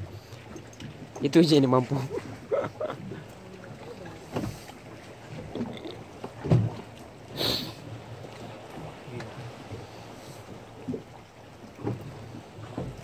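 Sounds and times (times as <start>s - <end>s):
sea water lapping and sloshing: 0.0s - 13.0s
water splash: 0.0s - 13.0s.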